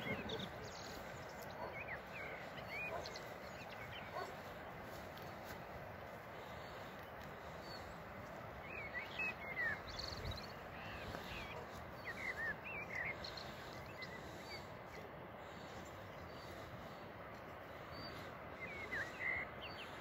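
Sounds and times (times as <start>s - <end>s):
small birds chirping: 0.0s - 20.0s
steady outdoor hiss: 0.0s - 20.0s.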